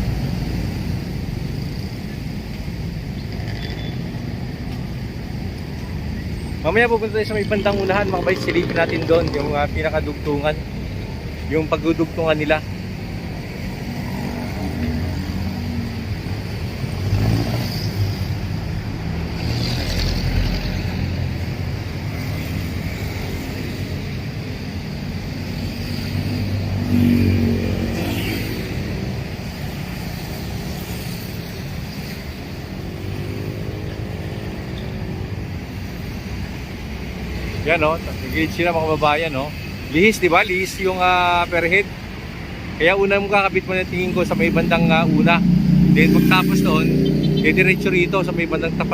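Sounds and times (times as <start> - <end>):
cars and motorcycles passing: 0.0 - 48.9.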